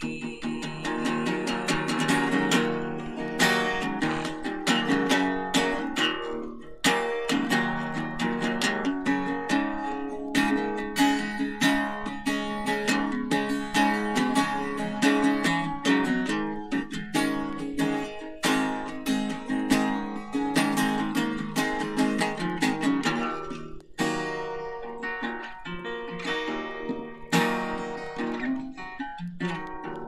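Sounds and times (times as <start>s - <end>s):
guitar strummed hard: 0.0s - 30.0s.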